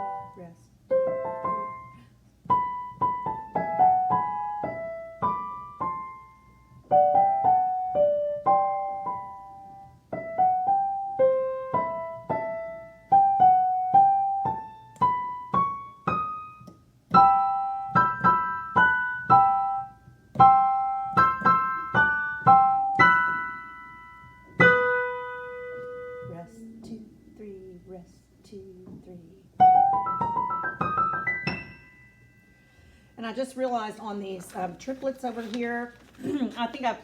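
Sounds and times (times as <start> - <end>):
piano melody: 0.0 - 28.0, 28.7 - 33.1.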